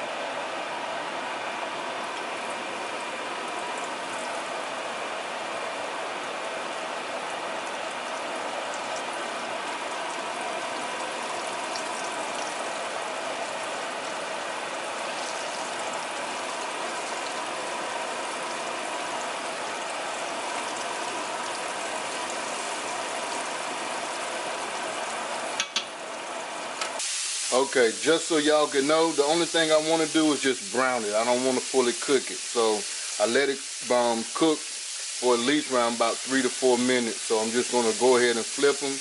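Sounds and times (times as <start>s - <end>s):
pork chops sizzling in oil: 1.6s - 39.0s.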